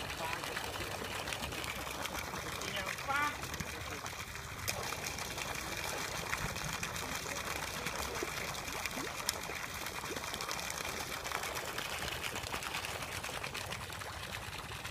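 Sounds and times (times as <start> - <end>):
fish splashing in water: 0.0 - 14.9.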